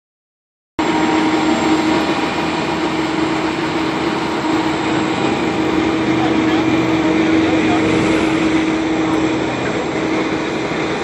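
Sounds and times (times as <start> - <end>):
concrete mixer truck running: 0.8 - 11.0.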